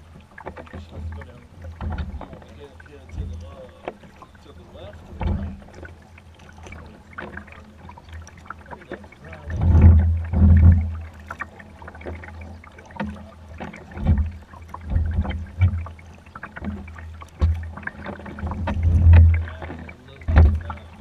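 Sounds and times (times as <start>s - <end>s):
paddle strokes splashing: 0.0s - 21.0s.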